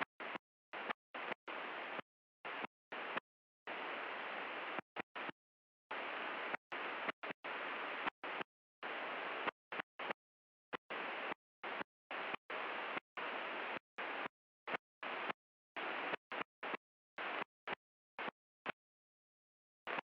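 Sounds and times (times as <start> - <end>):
radio static hiss: 0.2 - 18.4.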